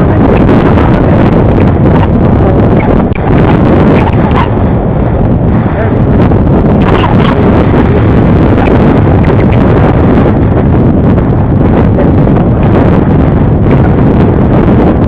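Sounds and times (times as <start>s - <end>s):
atv engine running: 0.0s - 15.0s
wind buffeting microphone: 0.0s - 15.0s.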